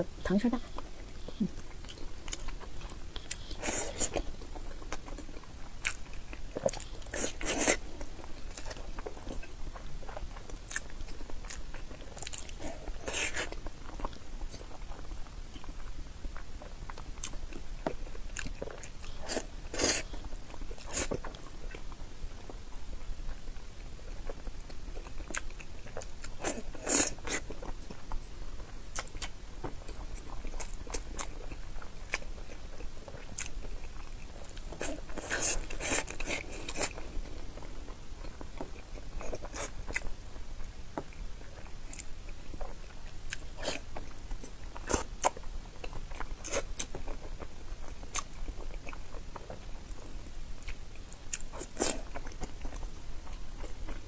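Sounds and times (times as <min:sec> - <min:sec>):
chewing soft eggs: 0:00.1 - 0:54.0.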